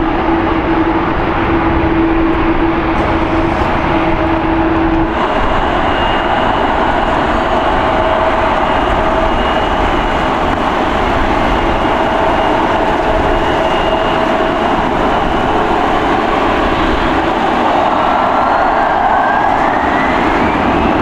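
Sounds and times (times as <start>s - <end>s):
high engine whine: 0.0s - 21.0s
jet engines roaring: 0.0s - 21.0s.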